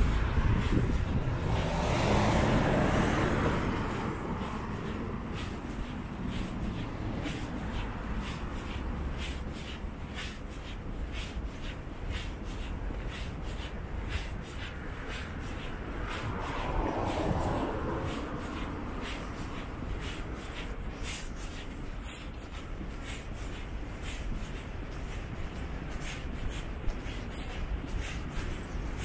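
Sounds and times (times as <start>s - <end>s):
footsteps ticking: 0.0s - 29.0s
traffic rumble: 0.0s - 29.0s
vehicle passing: 0.0s - 29.0s.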